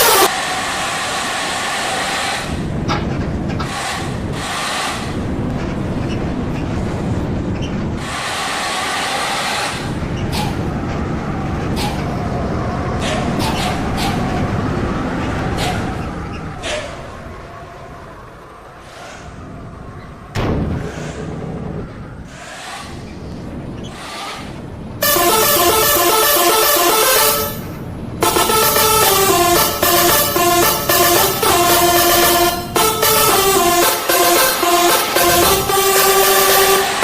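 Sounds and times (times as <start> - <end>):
bus engine rumble: 0.0 - 37.0.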